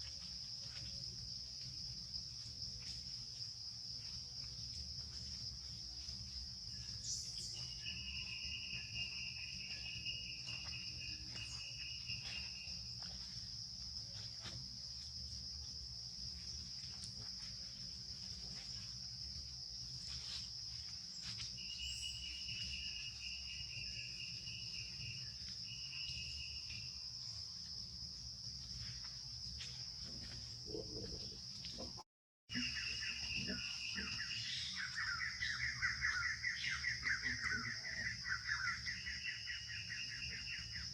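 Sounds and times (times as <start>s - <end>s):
insects droning high: 0.0s - 40.9s
lower insect trill: 0.0s - 40.9s.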